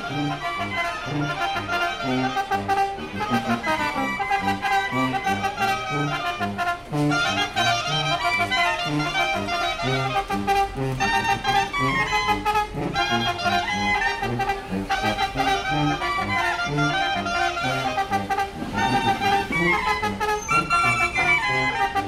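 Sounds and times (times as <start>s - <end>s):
brass band playing: 0.0s - 22.0s
tuba bass line: 0.0s - 22.0s.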